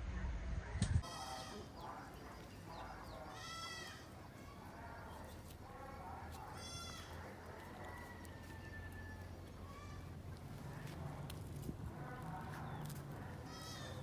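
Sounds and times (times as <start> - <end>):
goats bleating: 1.0 - 14.0.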